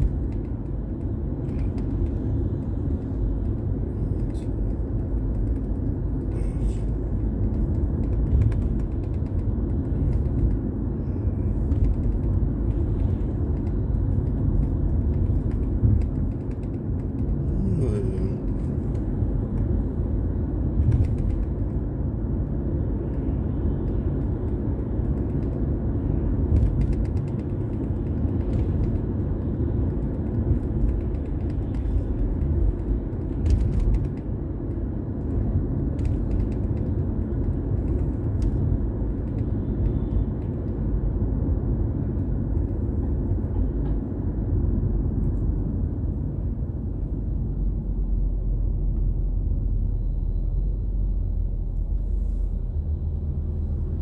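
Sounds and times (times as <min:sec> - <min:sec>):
creaks and clicks: 0:00.0 - 0:44.3
car driving rumble: 0:00.0 - 0:54.0.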